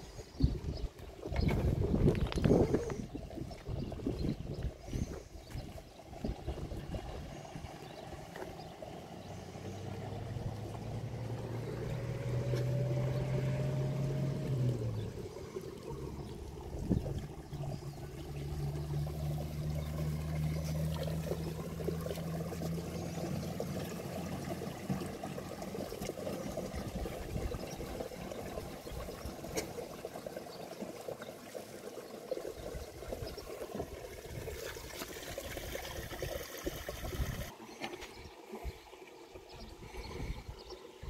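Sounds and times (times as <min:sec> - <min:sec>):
water pouring and trickling: 0:00.0 - 0:41.0.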